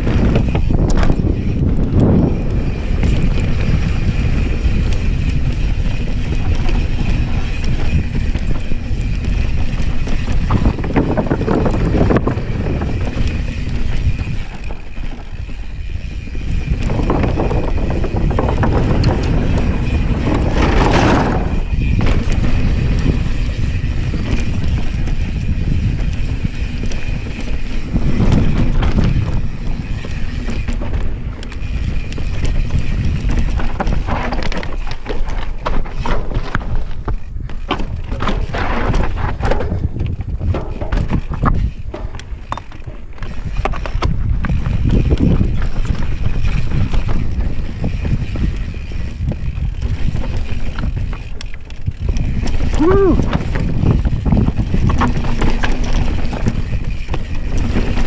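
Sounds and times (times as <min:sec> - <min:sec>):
bike rattles and knocks: 0:00.0 - 0:58.0
tyres rolling on dirt: 0:00.0 - 0:58.0
wind rumbling on microphone: 0:00.0 - 0:58.0.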